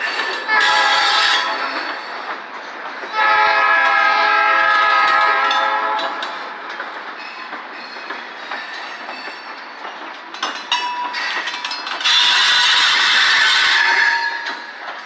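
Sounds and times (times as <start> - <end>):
train wheels clicking over rail joints: 0.0 - 15.0.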